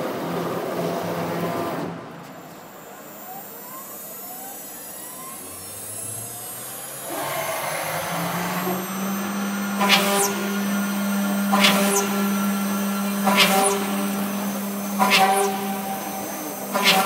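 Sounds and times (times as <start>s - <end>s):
rising motor whines: 2.3s - 17.0s
router cutting metal: 2.9s - 17.0s.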